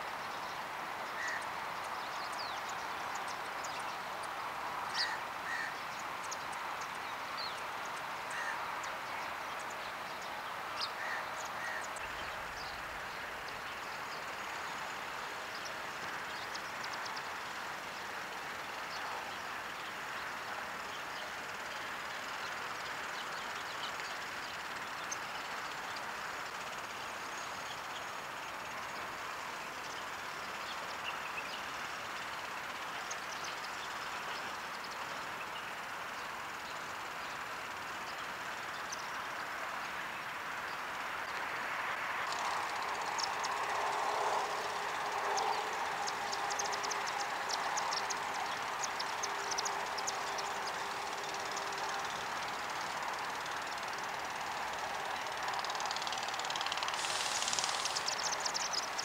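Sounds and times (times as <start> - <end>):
steady background hiss: 0.0 - 59.0
birds chirping: 0.2 - 39.3, 42.3 - 59.0.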